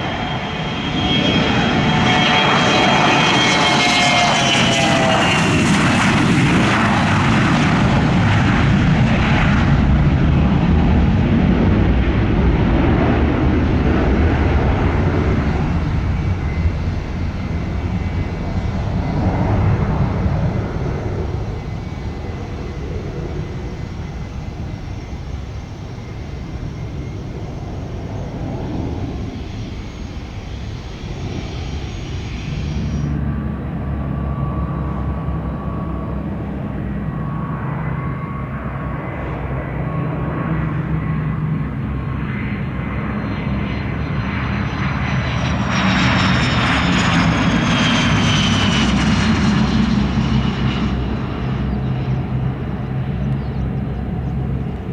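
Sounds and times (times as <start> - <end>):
aircraft engine whining: 0.0 - 54.9.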